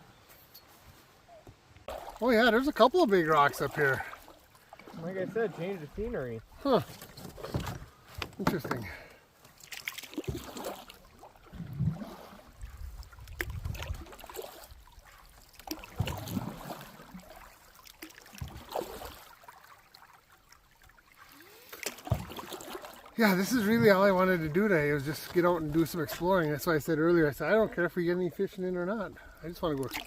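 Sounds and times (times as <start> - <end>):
paddles splashing in water: 1.8 - 30.0.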